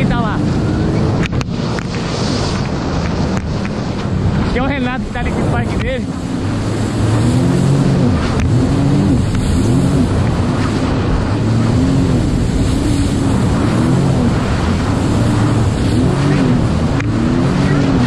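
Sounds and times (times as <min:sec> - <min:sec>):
jet ski engine running: 0:00.0 - 0:18.0
water rushing past hull: 0:00.0 - 0:18.0
wind on microphone: 0:00.0 - 0:18.0.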